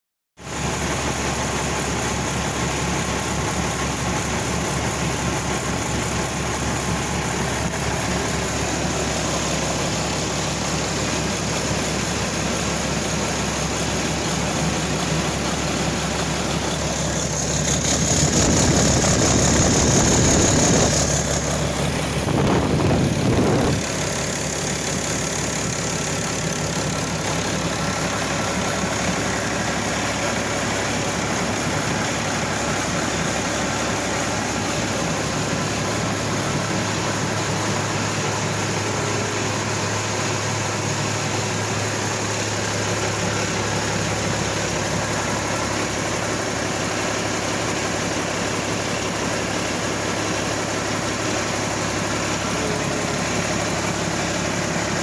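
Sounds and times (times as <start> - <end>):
diesel engine idling: 0.4 - 55.0.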